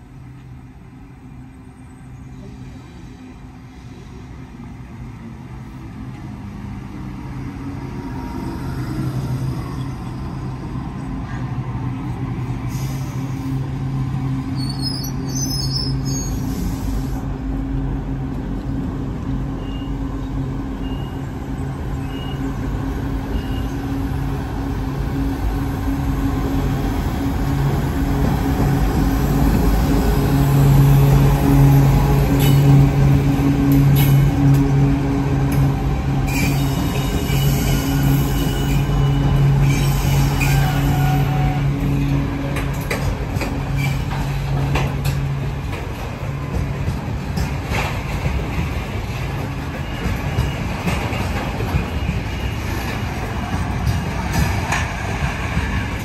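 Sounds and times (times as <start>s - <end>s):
diesel locomotive engines humming: 0.0s - 56.0s.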